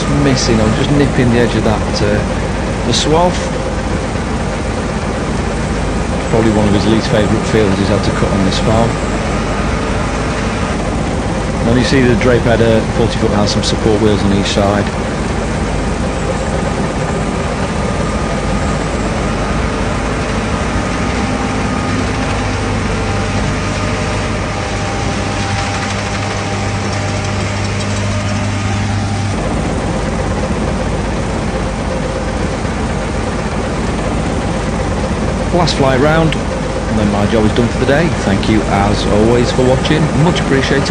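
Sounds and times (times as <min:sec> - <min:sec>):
combine harvester rumbling: 0:00.0 - 0:40.9
strong low hum: 0:00.0 - 0:40.9.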